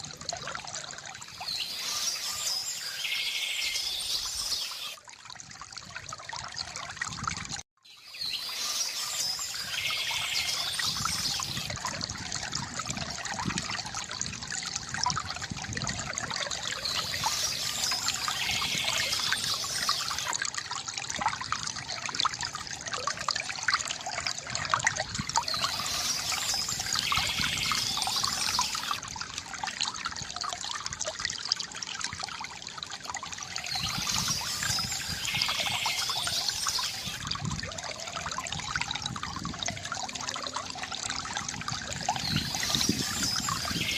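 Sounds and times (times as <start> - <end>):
fountain water trickling into basin: 0.0 - 43.9.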